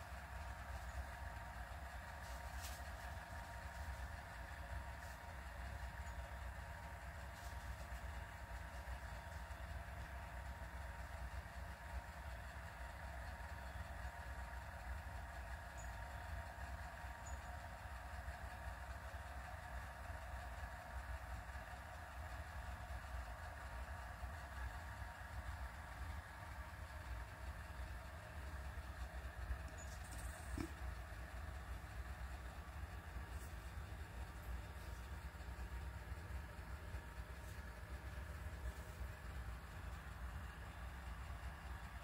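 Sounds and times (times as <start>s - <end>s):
low background rumble: 0.0s - 42.0s.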